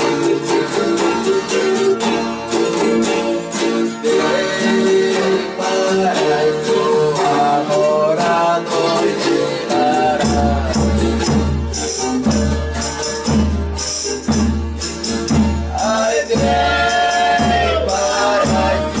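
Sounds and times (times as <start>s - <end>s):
sliding melody line: 0.0s - 19.0s
strummed acoustic guitars: 0.0s - 19.0s.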